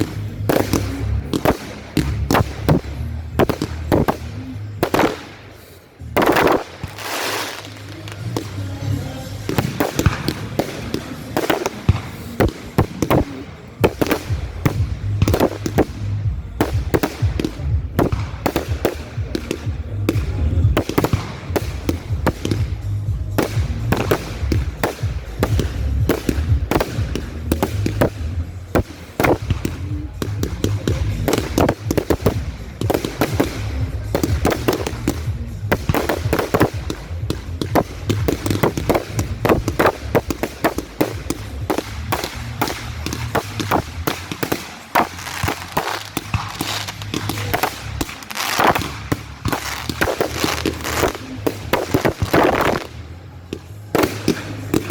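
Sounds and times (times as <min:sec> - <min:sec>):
fireworks bangs and crackles: 0:00.0 - 0:54.9
music playing: 0:00.0 - 0:54.9.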